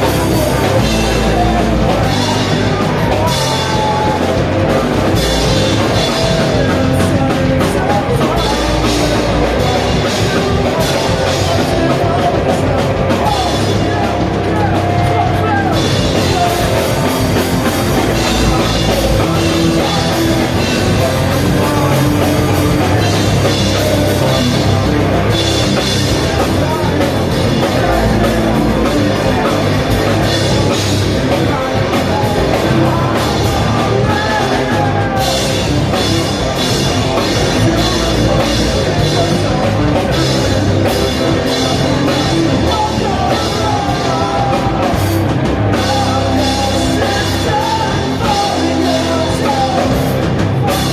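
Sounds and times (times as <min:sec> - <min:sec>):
drum kit: 0:00.0 - 0:50.9
person singing: 0:00.0 - 0:50.9
rock music: 0:00.0 - 0:50.9.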